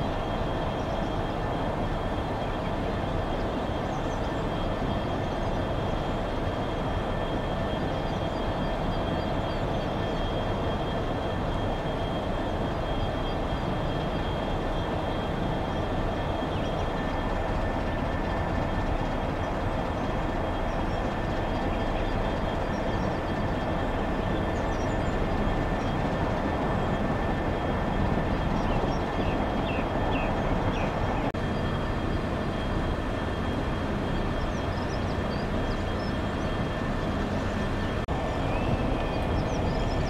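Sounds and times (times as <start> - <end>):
diesel locomotive engine rumbling: 0.0 - 40.0
faint steady whine: 0.0 - 40.0.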